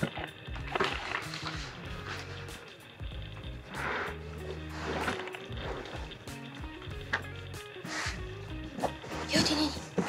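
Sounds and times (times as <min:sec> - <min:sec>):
background music low notes: 0:00.0 - 0:10.0.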